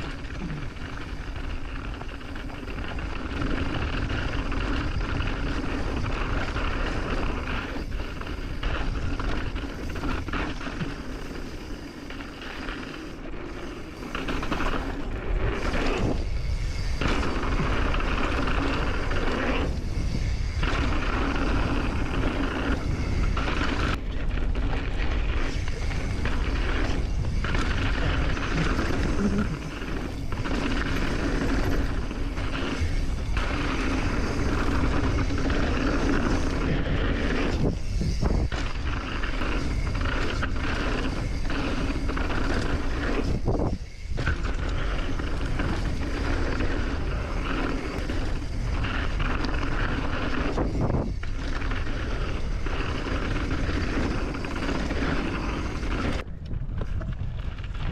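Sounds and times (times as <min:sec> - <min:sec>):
bike tyres rattling on dirt: 0:00.0 - 0:57.9
wind buffeting microphone: 0:00.0 - 0:57.9.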